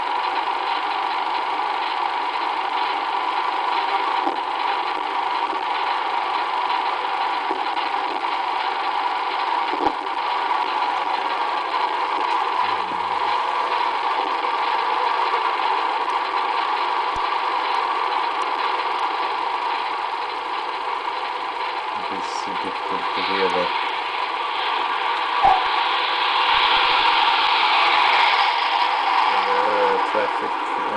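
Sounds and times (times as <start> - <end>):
recorder machine noise: 0.0 - 30.9.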